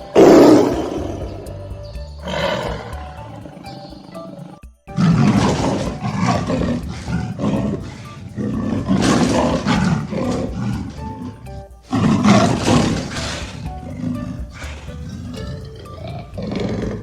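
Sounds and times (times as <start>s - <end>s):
soft background music: 0.0s - 17.0s
big cat roaring: 2.2s - 17.0s.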